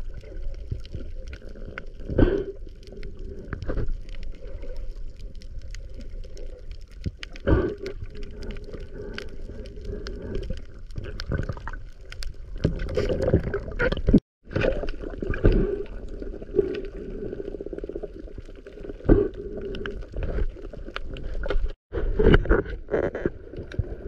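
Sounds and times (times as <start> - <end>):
water sloshing and gurgling: 0.0 - 24.0.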